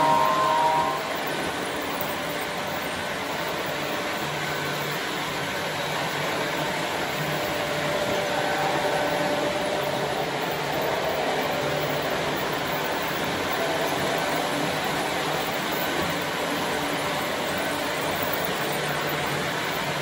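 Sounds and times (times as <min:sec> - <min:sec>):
model train whirring: 0:00.0 - 0:20.0.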